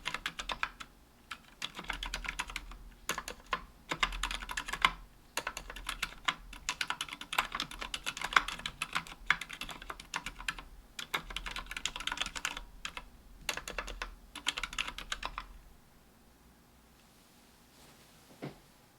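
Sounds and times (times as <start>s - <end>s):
typing on mechanical keyboard: 0.0s - 15.5s.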